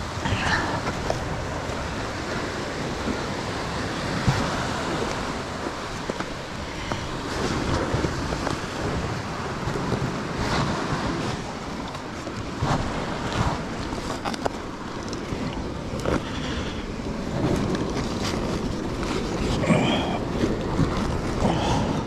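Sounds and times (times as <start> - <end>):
waves washing against rocks: 0.0 - 22.0
wind buffeting microphone: 0.0 - 22.0.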